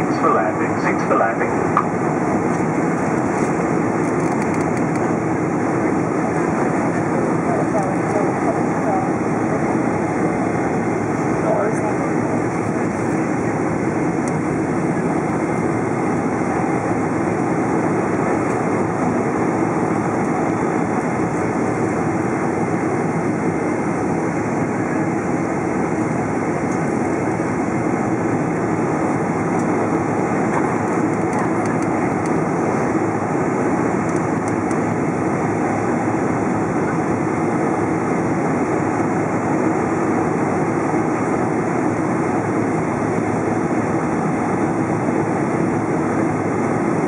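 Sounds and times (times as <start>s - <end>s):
airplane cabin engine noise: 0.0s - 47.0s.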